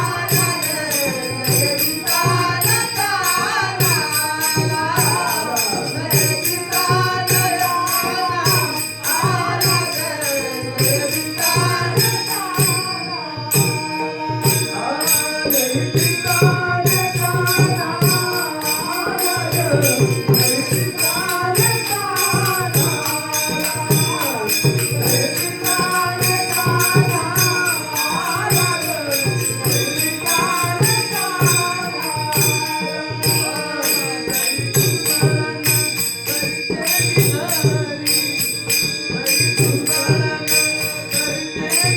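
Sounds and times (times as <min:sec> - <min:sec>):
man singing: 0:00.0 - 0:41.9
small hand cymbals clashing: 0:00.0 - 0:41.9.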